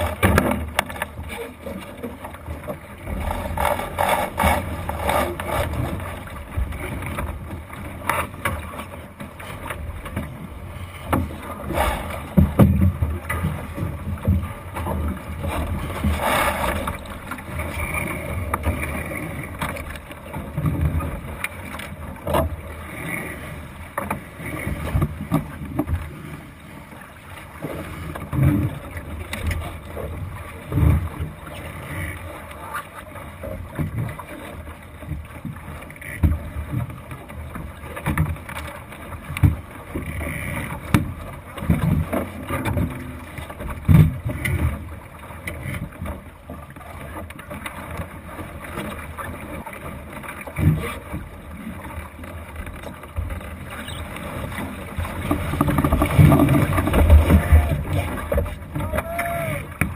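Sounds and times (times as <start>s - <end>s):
water wash: 0.0s - 59.9s.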